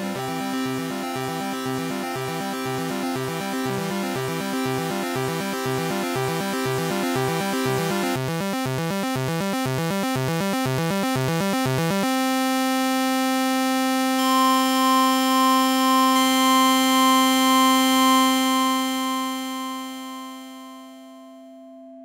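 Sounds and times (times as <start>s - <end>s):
electronic sine-wave music: 0.0s - 21.7s.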